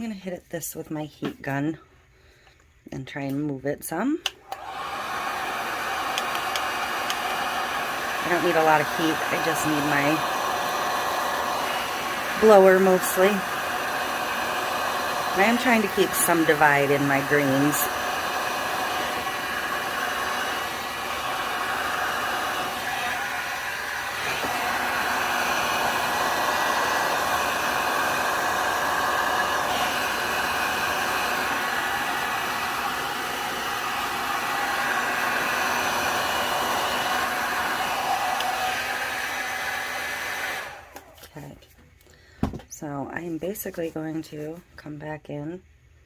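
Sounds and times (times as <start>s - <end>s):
heat gun blowing: 4.3s - 41.2s.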